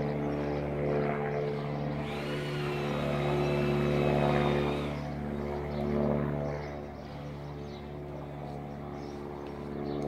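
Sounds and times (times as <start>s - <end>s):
light aircraft engine droning: 0.0s - 10.0s.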